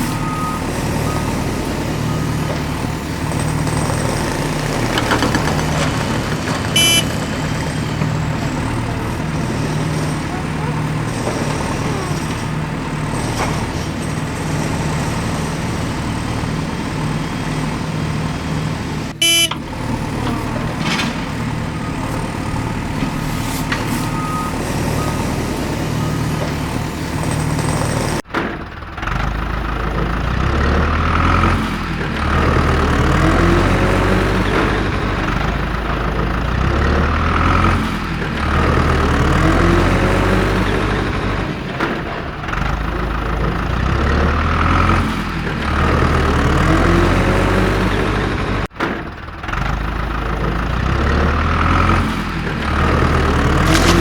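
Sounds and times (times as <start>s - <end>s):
deep engine revving under load: 0.0s - 48.7s, 49.4s - 54.0s
heavy machine engine running: 0.0s - 54.0s.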